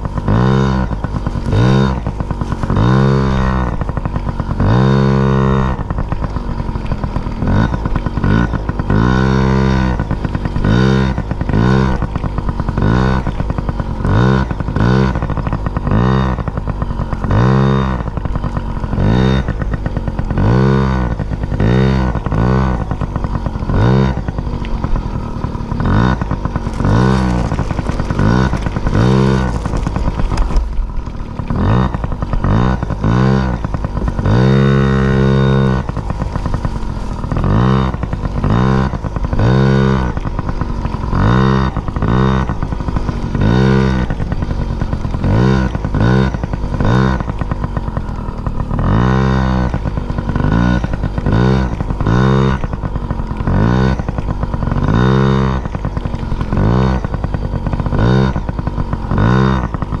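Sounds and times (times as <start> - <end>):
engine revving: 0.0 - 60.0.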